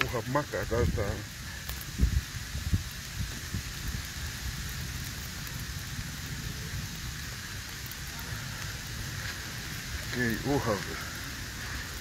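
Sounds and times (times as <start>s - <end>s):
continuous low rumble: 0.0s - 12.0s
volcanic ash pattering down: 0.0s - 12.0s.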